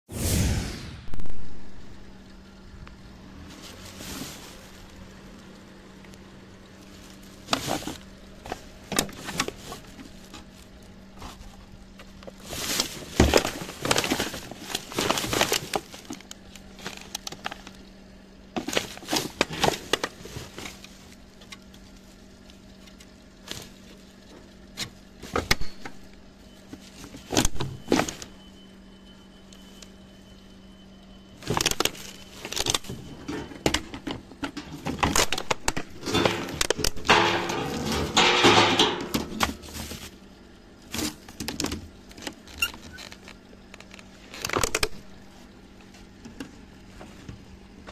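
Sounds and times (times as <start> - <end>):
steady low hum: 0.1 - 47.9
plastic bags rustling: 3.2 - 28.6, 31.3 - 47.8.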